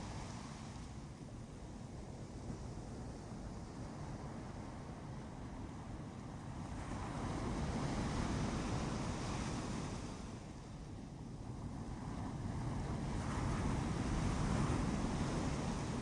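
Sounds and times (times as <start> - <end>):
ocean surf breaking on a beach: 0.0 - 16.0.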